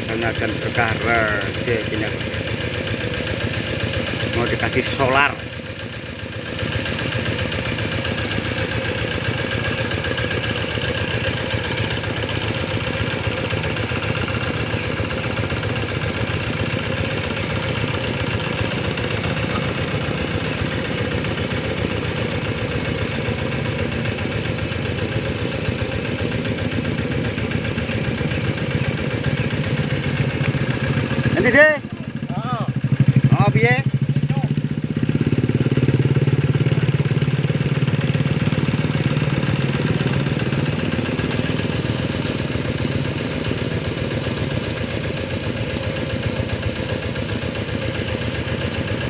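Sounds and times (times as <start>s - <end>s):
tractor diesel engine chugging: 0.0s - 49.0s.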